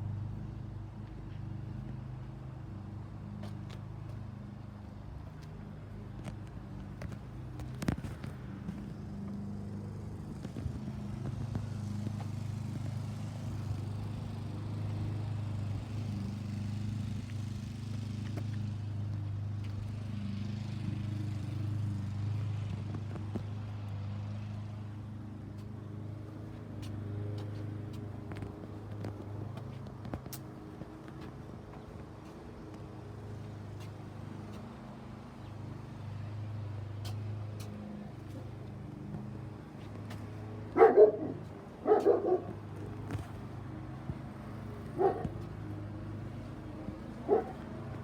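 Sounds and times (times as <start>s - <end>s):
car engine humming: 0.0s - 48.0s.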